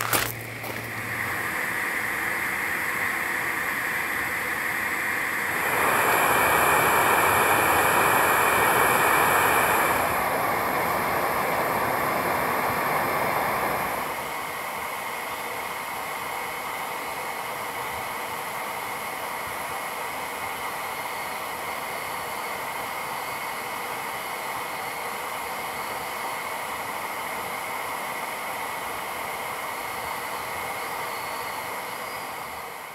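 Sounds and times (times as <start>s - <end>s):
fuel burner hissing: 0.0s - 32.9s.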